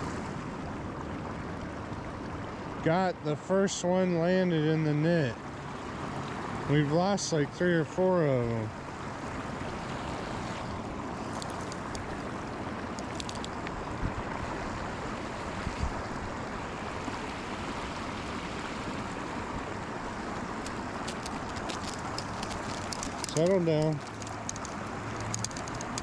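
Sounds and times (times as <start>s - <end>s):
rushing outdoor noise: 0.0s - 26.0s.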